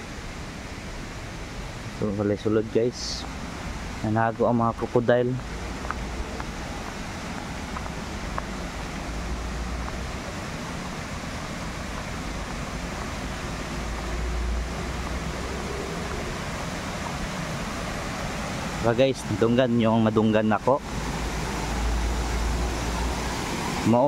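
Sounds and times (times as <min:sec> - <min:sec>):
wind rumbling on microphone: 0:00.0 - 0:19.6
flowing water rushing: 0:00.0 - 0:24.0.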